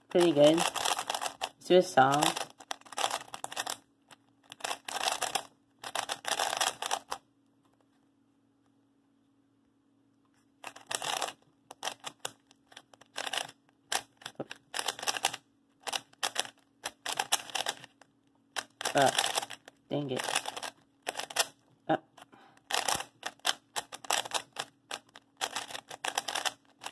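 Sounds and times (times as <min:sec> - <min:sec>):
speed cube clicking: 0:00.1 - 0:07.2, 0:10.6 - 0:18.0, 0:18.6 - 0:21.6, 0:22.2 - 0:26.9.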